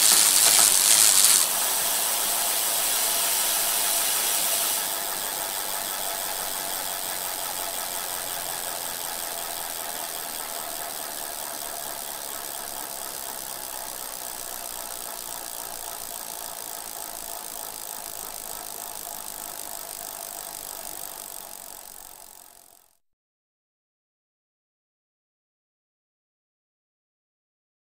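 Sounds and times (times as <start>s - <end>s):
bicycle tyres and chains whirring: 0.0s - 23.0s.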